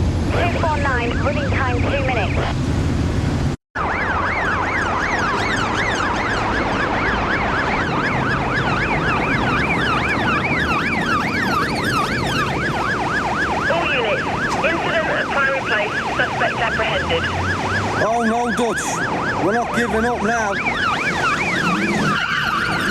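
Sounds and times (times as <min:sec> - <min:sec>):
speeding car engine and tyres: 0:00.0 - 0:22.9
police siren yelping: 0:00.5 - 0:02.5, 0:03.8 - 0:22.9.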